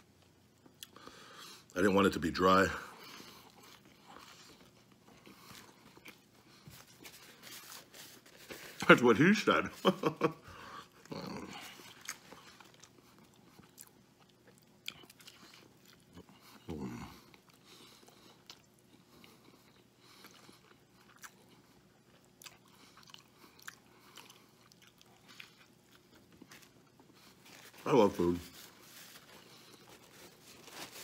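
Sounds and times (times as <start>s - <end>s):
man chewing: 0.2s - 1.7s, 3.0s - 8.8s, 10.5s - 31.0s.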